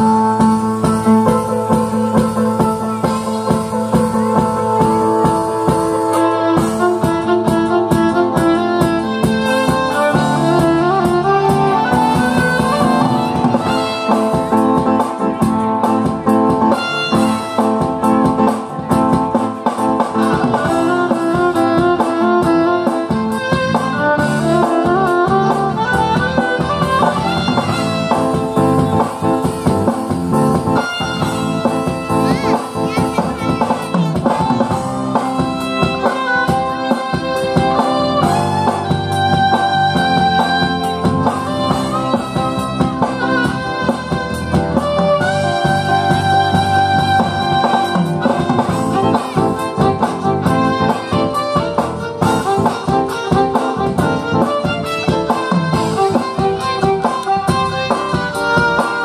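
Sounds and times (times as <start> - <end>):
electronic keyboard with beat: 0.0 - 59.0
violin melody: 0.0 - 59.0.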